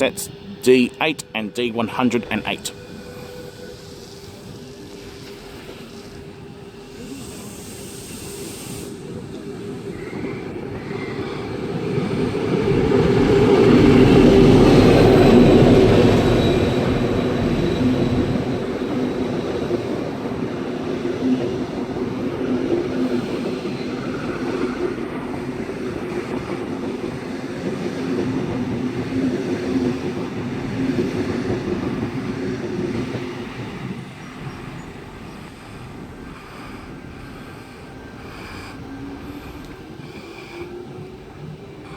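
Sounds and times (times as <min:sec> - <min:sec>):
diesel locomotive passing: 0:00.0 - 0:41.9
train carriages rumbling past: 0:00.0 - 0:41.9.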